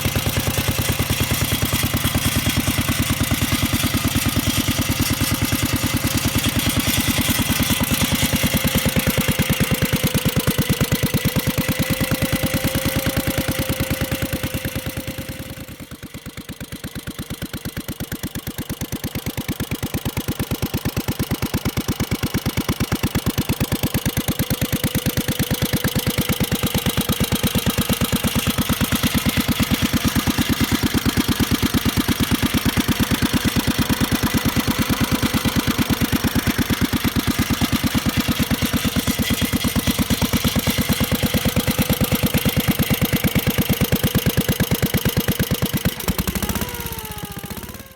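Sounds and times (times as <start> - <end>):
stationary engine running: 0.0 - 47.9.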